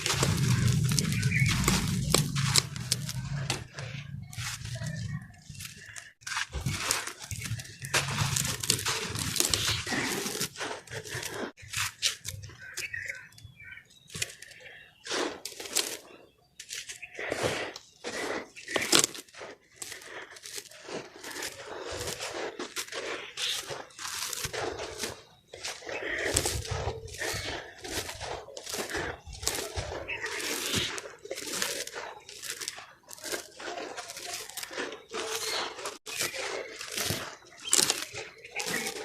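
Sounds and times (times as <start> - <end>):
cement block crunching: 0.0 - 39.0.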